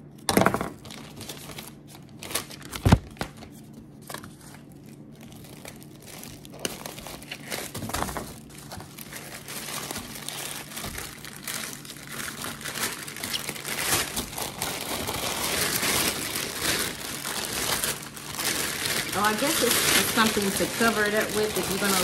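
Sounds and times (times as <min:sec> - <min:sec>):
plastic cover crinkling and rustling: 0:00.6 - 0:22.0.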